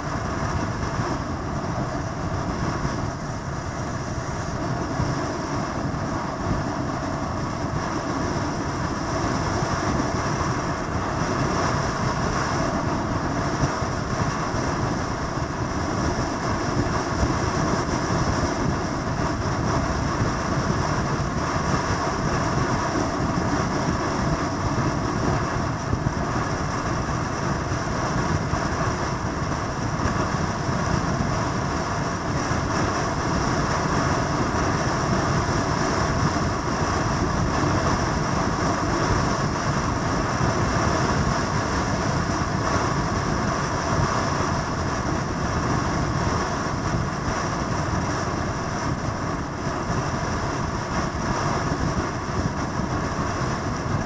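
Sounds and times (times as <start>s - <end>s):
rushing noise: 0.0s - 54.0s.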